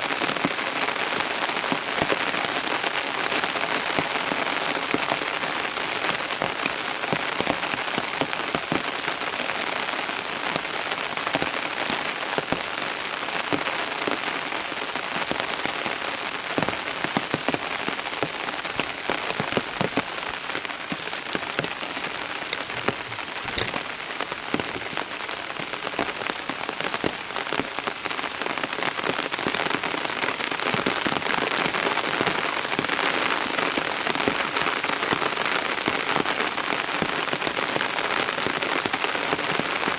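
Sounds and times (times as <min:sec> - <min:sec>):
raindrops striking close by: 0:00.0 - 0:39.9
steady rain falling: 0:00.0 - 0:39.9.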